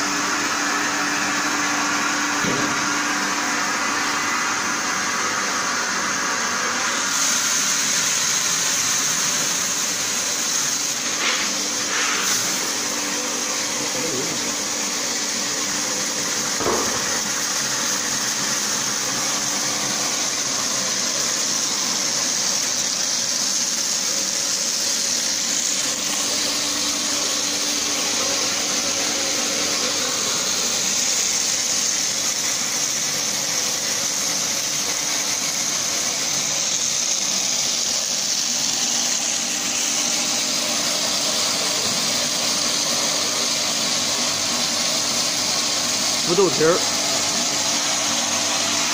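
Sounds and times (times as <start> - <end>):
machine motor drone: 0.0 - 48.9.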